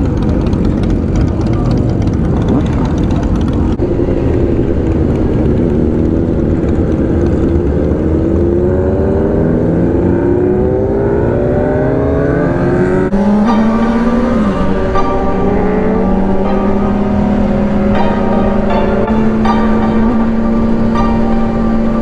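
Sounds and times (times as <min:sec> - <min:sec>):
low rumble: 0:00.0 - 0:22.0
motorcycle engine accelerating: 0:00.0 - 0:22.0.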